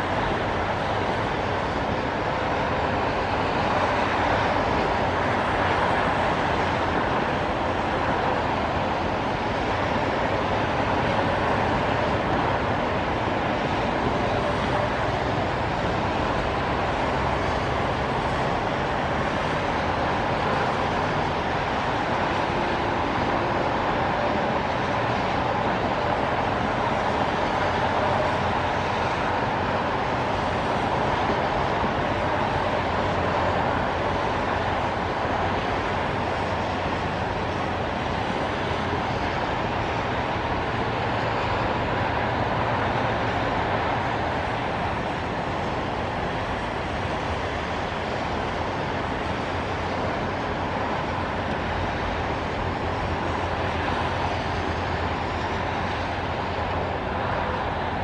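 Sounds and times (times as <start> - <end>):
rain: 0.0 - 58.0
tyres hissing on wet road: 0.0 - 58.0.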